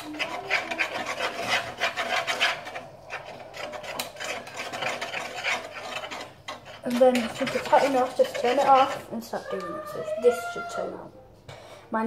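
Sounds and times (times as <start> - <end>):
spoon stirring dough in a pan: 0.0 - 10.8.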